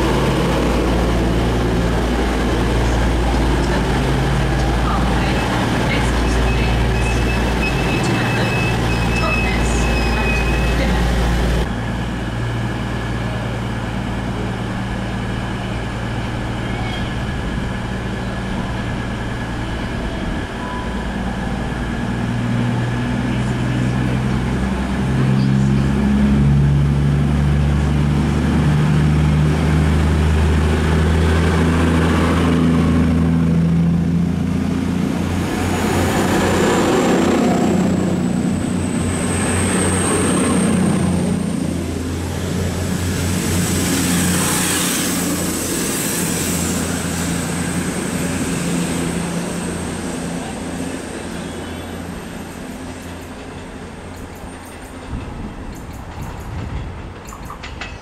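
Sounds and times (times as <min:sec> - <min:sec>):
diesel train engine drone: 0:00.0 - 0:58.0
train coaches rumbling past: 0:00.0 - 0:58.0.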